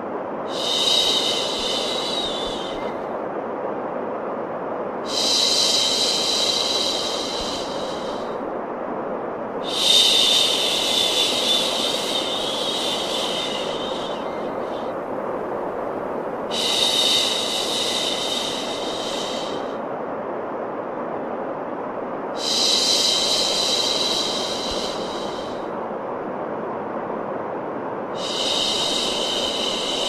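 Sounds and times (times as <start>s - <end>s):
deep white noise: 0.0s - 30.0s.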